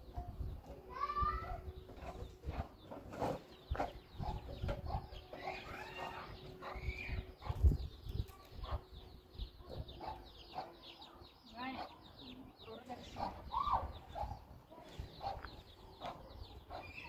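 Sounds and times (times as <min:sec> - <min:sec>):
birds chirping: 0:00.0 - 0:17.0
chickens clucking: 0:00.0 - 0:17.0.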